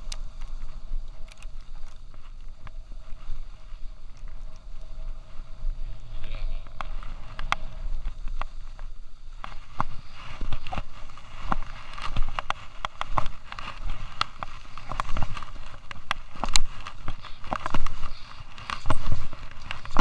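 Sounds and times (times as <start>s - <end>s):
ski clicks and knocks: 0.0s - 20.0s
wind rumble on microphone: 0.0s - 20.0s
skis hissing on snow: 2.8s - 12.8s, 13.4s - 19.9s.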